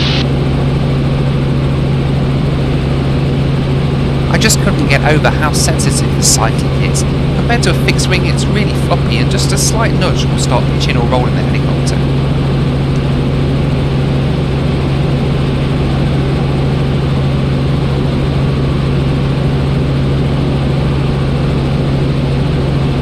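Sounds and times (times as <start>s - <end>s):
helicopter engine and rotors droning: 0.0s - 23.0s.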